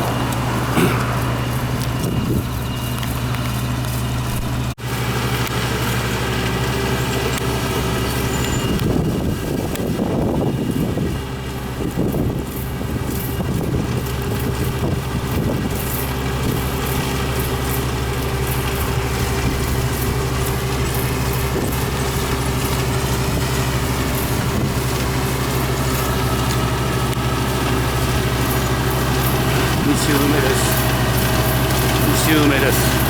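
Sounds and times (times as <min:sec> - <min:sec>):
farm machine engine running: 0:00.0 - 0:33.0.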